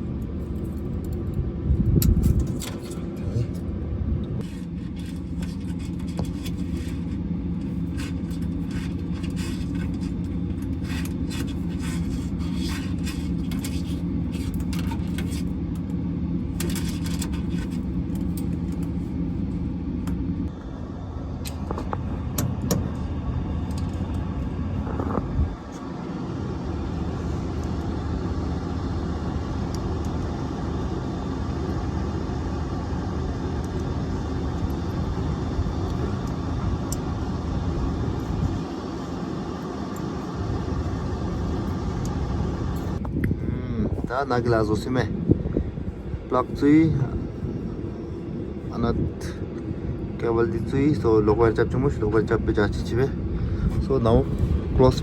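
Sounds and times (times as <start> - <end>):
steady engine drone: 0.0 - 55.0.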